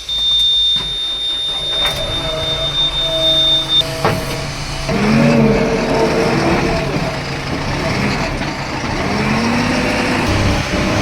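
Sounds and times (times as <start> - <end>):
diesel engine revving: 1.6 - 11.0.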